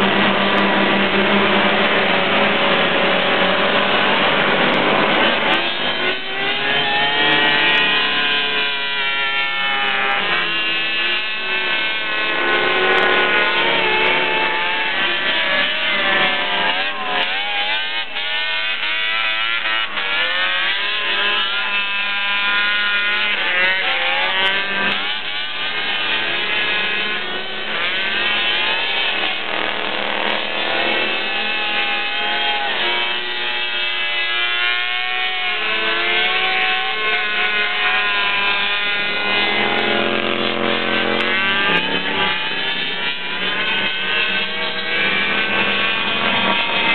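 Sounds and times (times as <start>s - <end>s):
atv engines revving: 0.0s - 46.9s.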